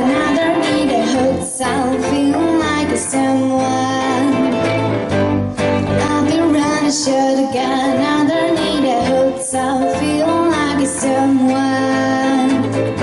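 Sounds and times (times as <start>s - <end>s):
girl singing into microphone: 0.0s - 4.6s, 5.9s - 12.8s
electric bass guitar: 0.0s - 13.0s
electric guitar: 0.0s - 13.0s.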